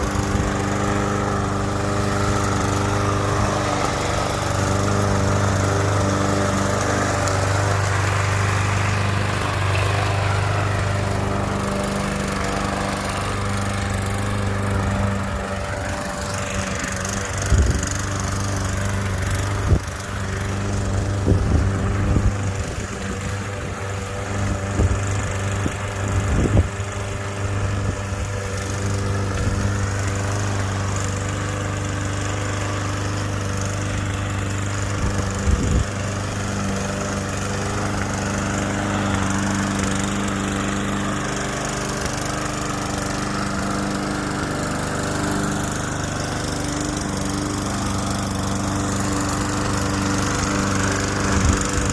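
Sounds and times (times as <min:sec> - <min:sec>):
lawn mower running: 0:00.0 - 0:51.9.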